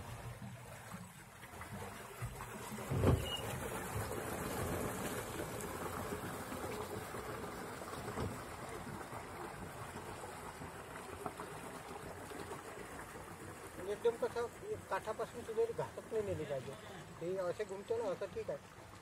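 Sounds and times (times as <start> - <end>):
paddle wheel churning water: 0.0 - 19.0.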